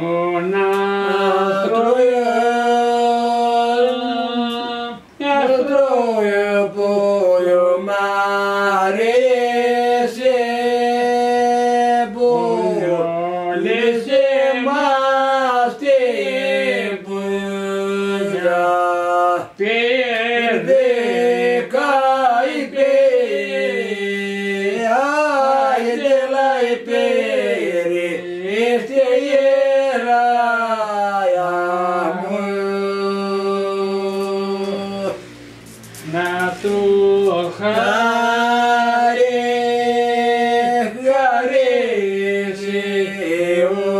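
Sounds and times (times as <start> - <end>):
old man singing unaccompanied: 0.0 - 35.4, 36.0 - 43.9.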